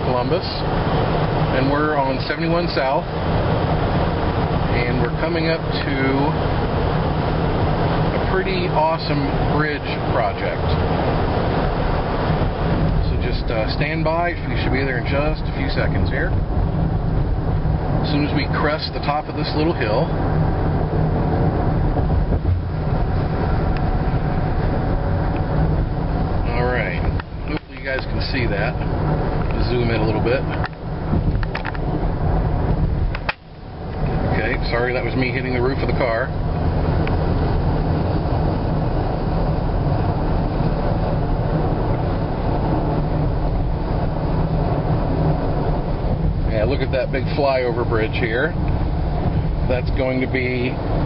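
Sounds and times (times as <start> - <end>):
car road noise from inside: 0.0 - 51.0
faint steady whine: 0.0 - 51.0
tyre and engine rumble: 0.0 - 51.0.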